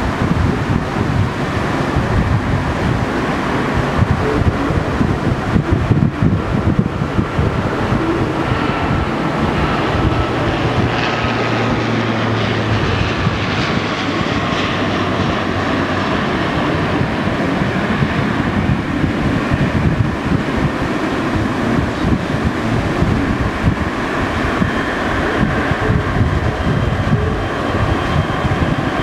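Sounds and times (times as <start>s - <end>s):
jet engines rushing: 0.0s - 29.0s
low hum: 0.0s - 29.0s.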